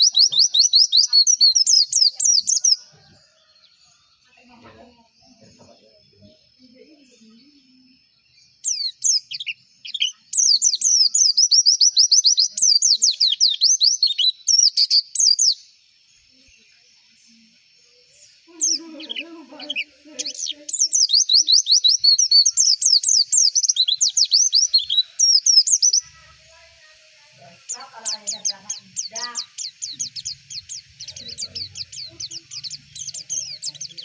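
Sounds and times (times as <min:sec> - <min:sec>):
bird singing chattering notes: 0:00.0 - 0:03.0, 0:04.4 - 0:34.0.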